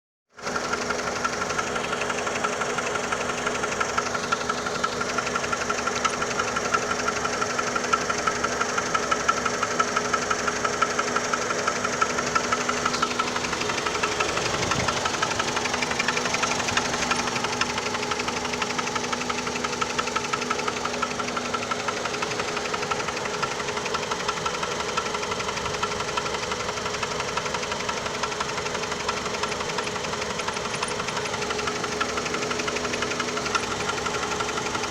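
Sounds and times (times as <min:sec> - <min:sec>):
car engine knocking: 0:00.4 - 0:34.9.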